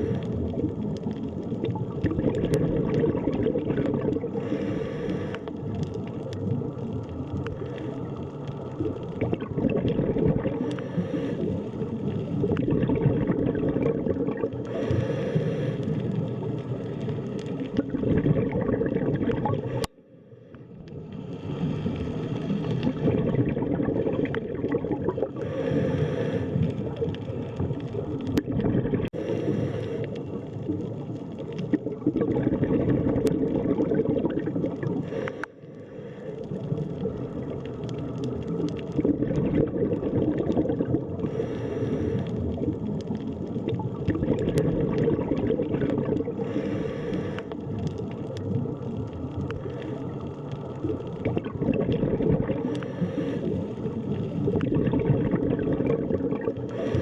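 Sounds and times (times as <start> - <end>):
bubbling and gurgling: 0.0 - 57.0
underwater churning water: 0.0 - 57.0.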